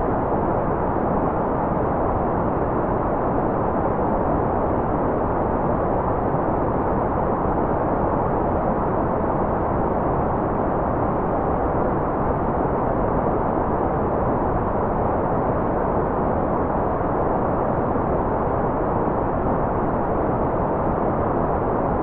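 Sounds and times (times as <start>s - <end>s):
dull white noise: 0.0s - 22.0s.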